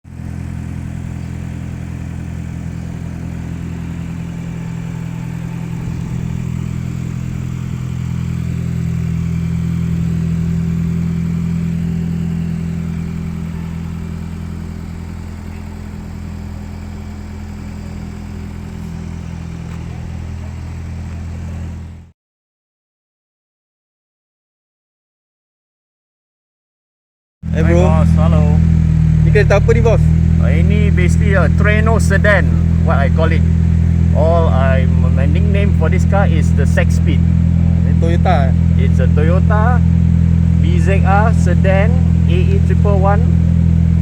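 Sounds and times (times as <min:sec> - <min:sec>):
car engine running: 0:00.0 - 0:22.1, 0:27.4 - 0:44.0.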